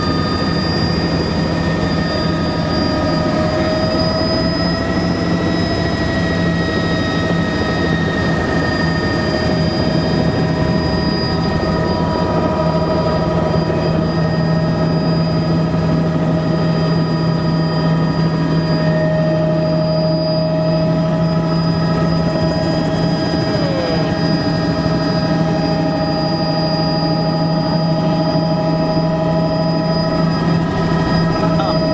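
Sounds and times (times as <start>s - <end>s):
constant high whine: 0.0s - 31.9s
helicopter rotor and engine: 0.0s - 31.9s.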